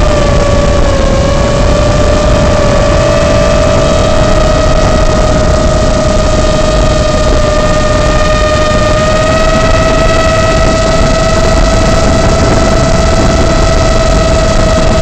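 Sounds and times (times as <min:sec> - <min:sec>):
quadcopter motors humming: 0:00.0 - 0:15.0
wind hiss: 0:00.0 - 0:15.0.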